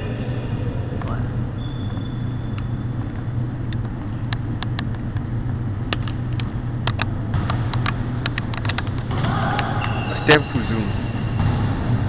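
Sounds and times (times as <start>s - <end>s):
low hum in hall: 0.0s - 12.0s.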